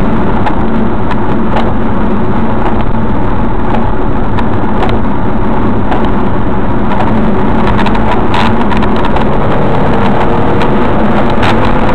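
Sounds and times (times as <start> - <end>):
car cabin road and engine noise: 0.0 - 11.9.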